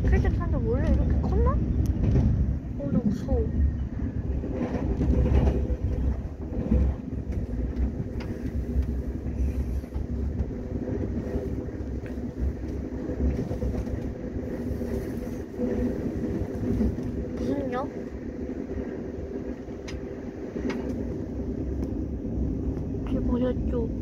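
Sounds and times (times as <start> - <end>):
constant hum: 0.0 - 24.0
train rumbling: 0.0 - 24.0.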